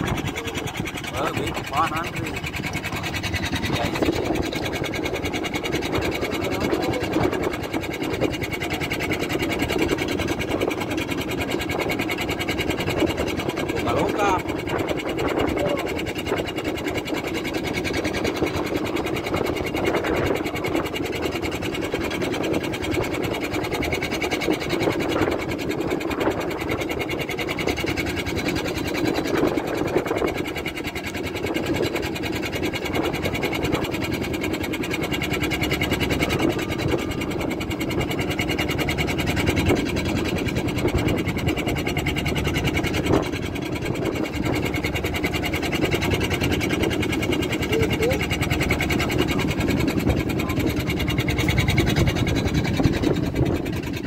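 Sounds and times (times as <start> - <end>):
boat engine idling: 0.0 - 54.0.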